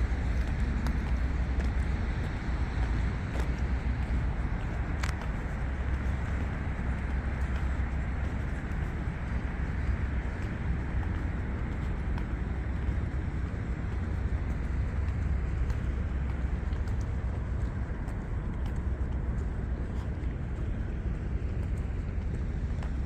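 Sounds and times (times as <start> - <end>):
distant engines rumbling: 0.0 - 23.0.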